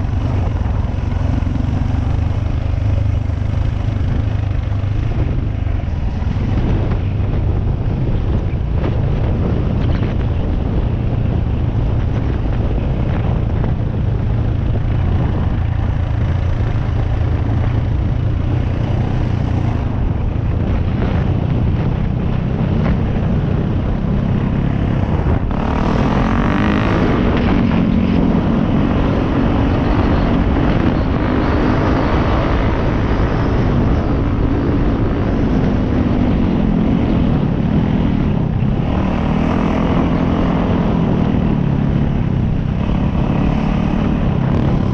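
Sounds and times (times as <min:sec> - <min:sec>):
wind noise: 0:00.0 - 0:44.9.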